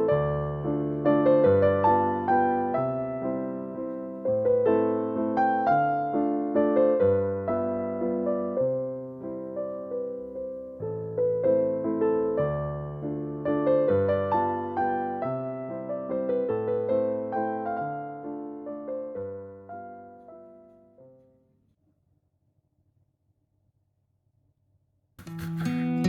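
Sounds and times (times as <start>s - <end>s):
gentle piano music: 0.0s - 21.5s, 25.2s - 26.0s.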